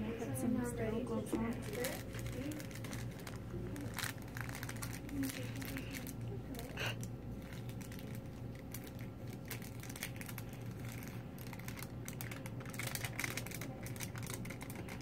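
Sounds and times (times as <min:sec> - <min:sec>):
paper rustling and crinkling: 0:01.2 - 0:06.8, 0:07.4 - 0:15.0.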